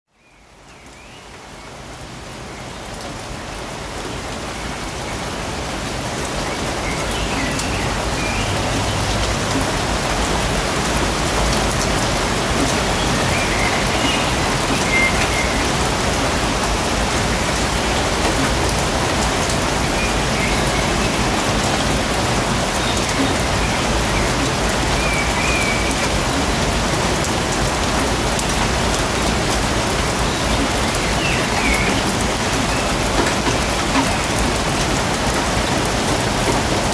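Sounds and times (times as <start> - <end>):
steady rain in woodland: 0.1 - 36.9.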